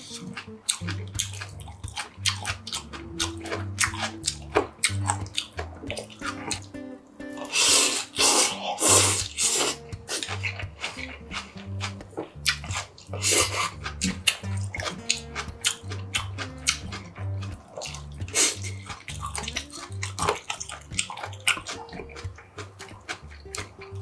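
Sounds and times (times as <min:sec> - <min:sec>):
wet slurping and chewing: 0:00.0 - 0:06.8, 0:07.4 - 0:24.0
background music with bass beat: 0:00.0 - 0:08.2, 0:08.9 - 0:24.0.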